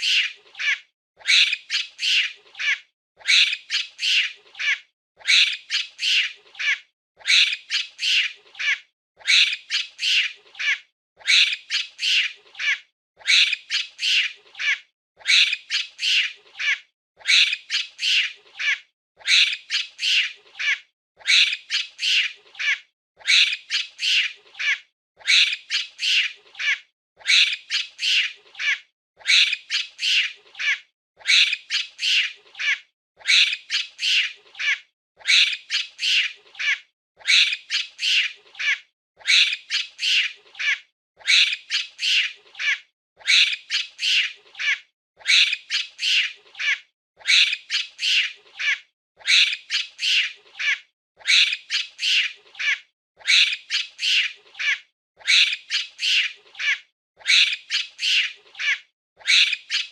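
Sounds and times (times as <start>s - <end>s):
monkey shrieking calls: 0.0s - 59.9s.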